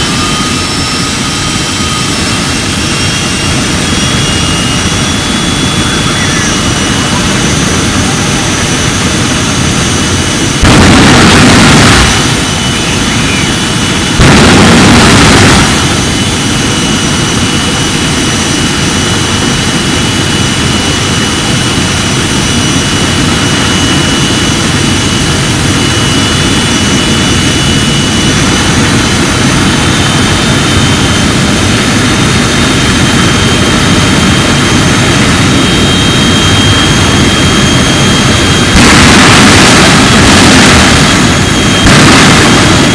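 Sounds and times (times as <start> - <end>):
jet engine turbine whine and exhaust: 0.0 - 42.9.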